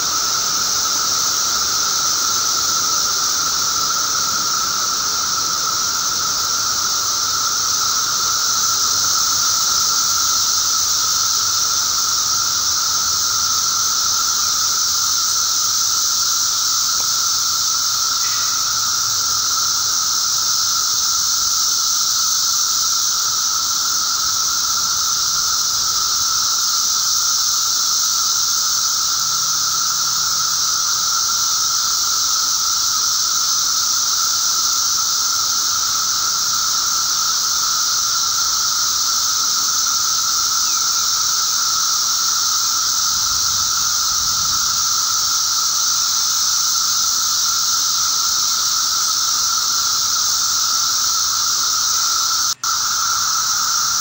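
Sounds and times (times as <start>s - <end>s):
cicada chorus drone: 0.0s - 54.0s.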